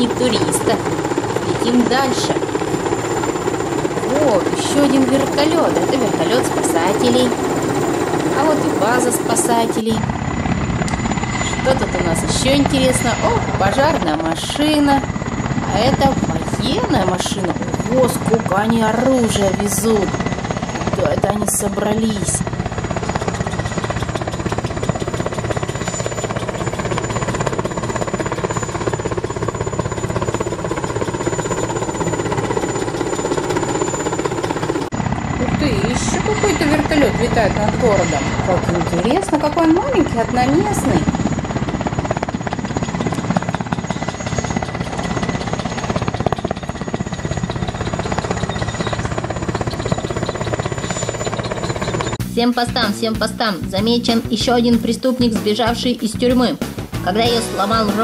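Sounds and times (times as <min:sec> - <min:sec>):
helicopter engine drone: 0:00.0 - 0:58.0
helicopter rotor chop: 0:00.0 - 0:58.0.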